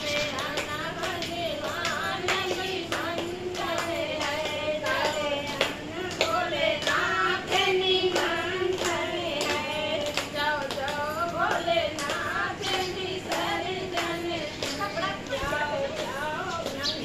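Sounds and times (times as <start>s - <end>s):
hand clapping: 0.0s - 17.0s
women singing: 0.0s - 17.0s.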